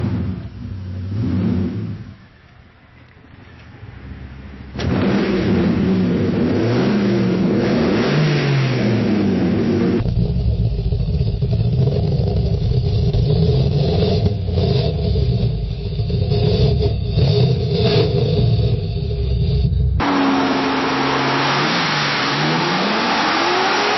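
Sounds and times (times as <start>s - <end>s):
car engine running steadily: 0.0s - 23.9s
car engine revving: 3.9s - 23.9s.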